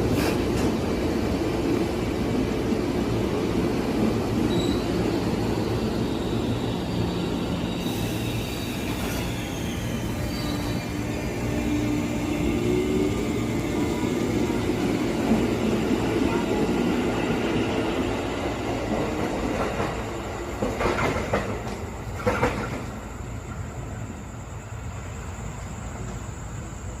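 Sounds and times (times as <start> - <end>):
electric train rumbling on tracks: 0.0 - 27.0.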